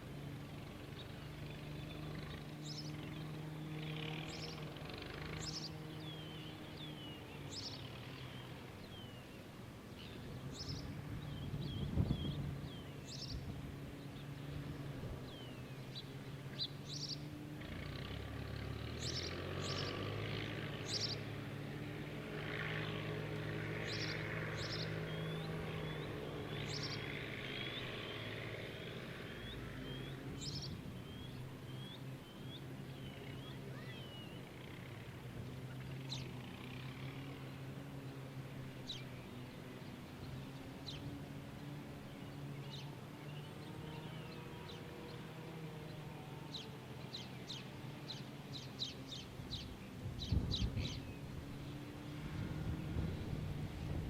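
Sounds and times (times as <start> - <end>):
birds chirping: 0.0 - 54.0
distant engine drone: 0.0 - 54.0.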